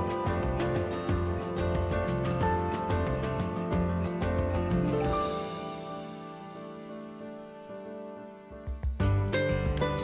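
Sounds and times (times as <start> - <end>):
background music with steady beat: 0.0 - 7.0, 8.2 - 10.0.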